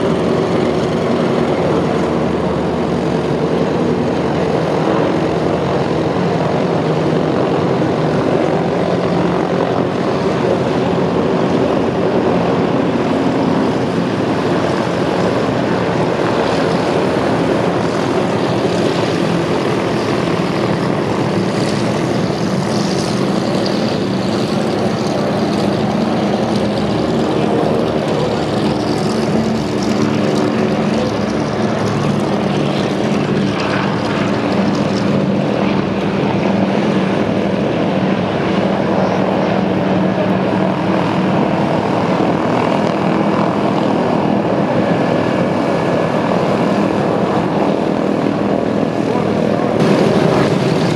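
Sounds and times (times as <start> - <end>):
propeller plane engines running: 0.0 - 50.9.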